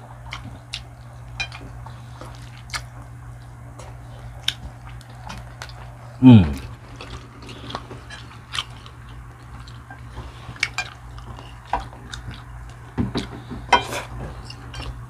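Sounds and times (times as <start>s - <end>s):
steady low hum: 0.0s - 15.0s
food being bitten and chewed: 0.1s - 15.0s.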